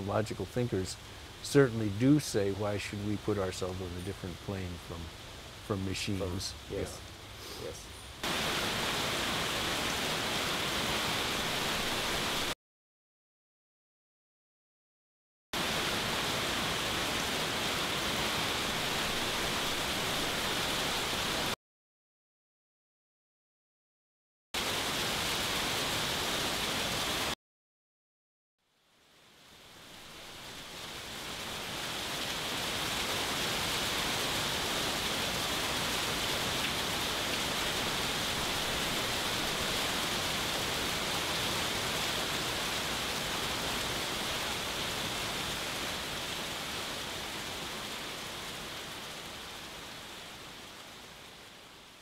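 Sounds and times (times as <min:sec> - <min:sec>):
rain hissing: 0:00.0 - 0:12.6, 0:15.6 - 0:21.6, 0:24.6 - 0:27.4, 0:28.7 - 0:52.0.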